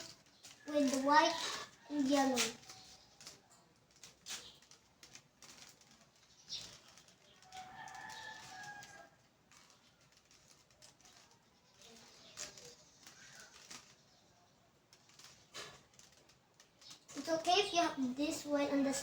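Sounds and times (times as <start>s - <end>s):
puzzle cube plastic clicks: 0.0s - 19.0s.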